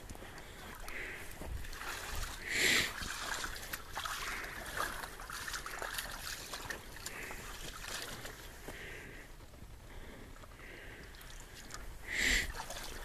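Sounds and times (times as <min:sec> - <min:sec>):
water sloshing and splashing: 0:00.0 - 0:08.8, 0:10.4 - 0:13.0.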